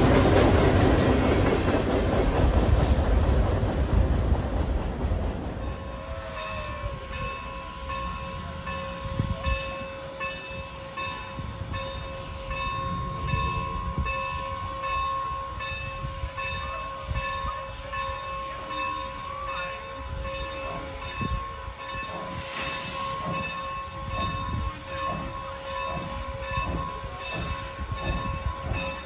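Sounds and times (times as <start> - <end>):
steam engine rumble and chuff: 0.0 - 29.0
locomotive bell ringing: 5.5 - 29.0.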